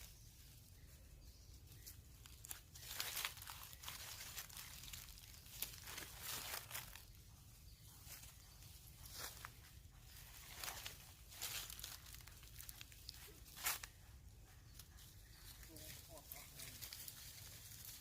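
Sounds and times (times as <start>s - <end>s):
faint rustling and crackling: 0.0s - 18.0s.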